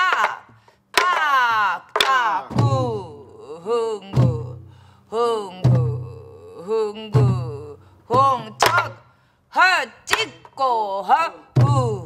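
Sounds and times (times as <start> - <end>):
person singing drum syllables: 0.0 - 12.0.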